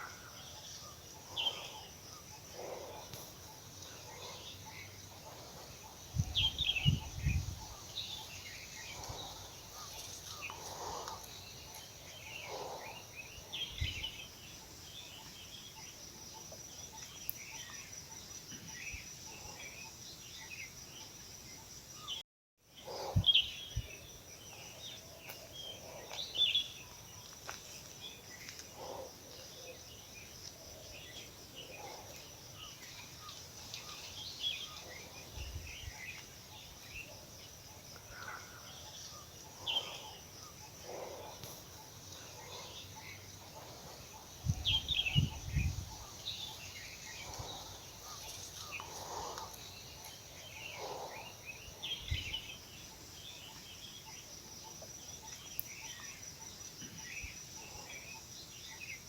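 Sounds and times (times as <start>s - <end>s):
small birds chirping: 0.0s - 22.2s, 22.8s - 59.0s.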